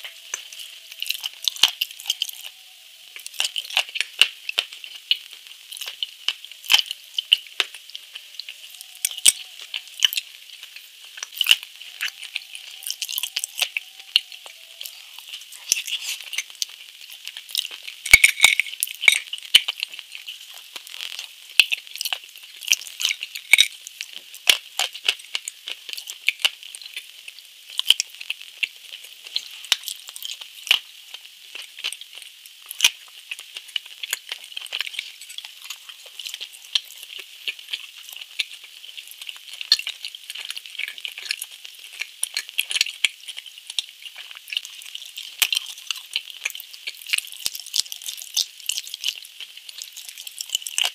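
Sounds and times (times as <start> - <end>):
crunchy chewing close up: 0.0 - 50.9.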